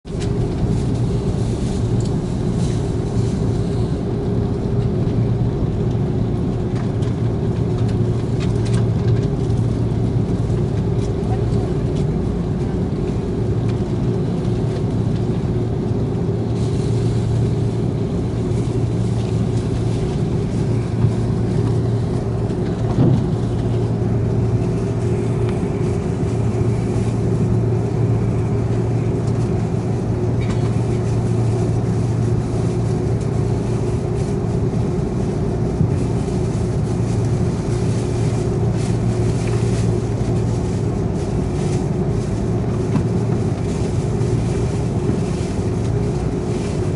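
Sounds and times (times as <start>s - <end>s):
airliner cabin drone: 0.1s - 46.9s.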